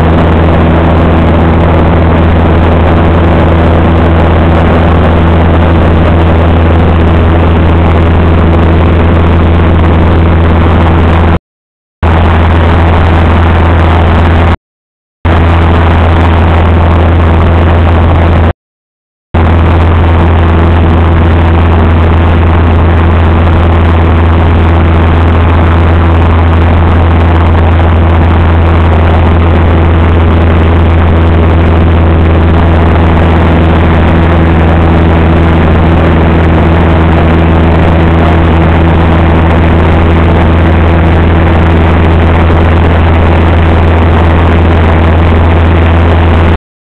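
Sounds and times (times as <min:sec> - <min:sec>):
small aircraft engine in cabin: 0:00.0 - 0:11.4, 0:12.0 - 0:14.6, 0:15.3 - 0:18.5, 0:19.4 - 0:46.6.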